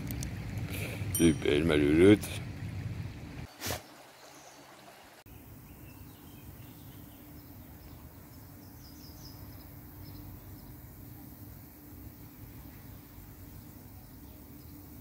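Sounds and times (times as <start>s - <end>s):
steady low hum: 0.0s - 3.5s, 5.4s - 15.0s.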